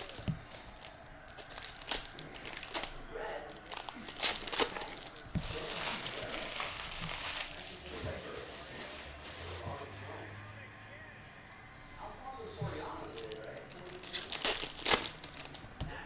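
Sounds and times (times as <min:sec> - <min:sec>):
foil wrappers tearing and crinkling: 0:00.0 - 0:10.1, 0:13.0 - 0:15.8.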